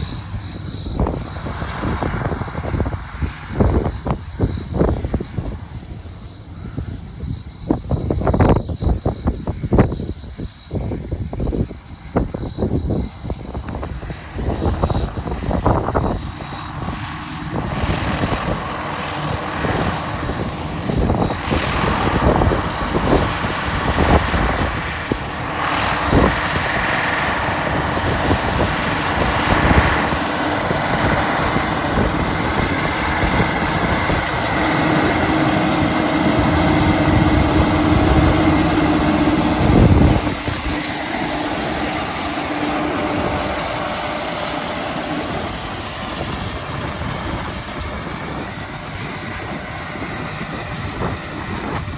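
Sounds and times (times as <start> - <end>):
machinery engine running: 0.0 - 10.2, 13.8 - 51.9
high-pitched whine: 0.0 - 51.9
wind buffeting microphone: 0.0 - 51.9.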